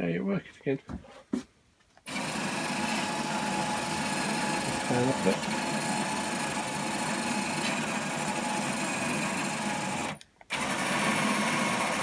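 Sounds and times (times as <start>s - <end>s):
motor whine with gear noise: 2.0s - 12.0s.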